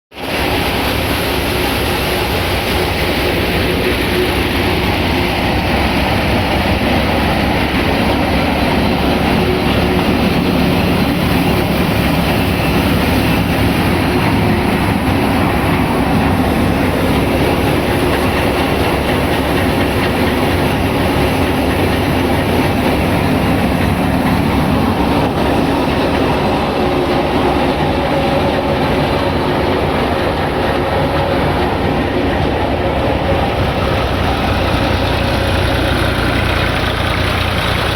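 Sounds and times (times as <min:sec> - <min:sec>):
tractor engine running: 0:00.2 - 0:37.9.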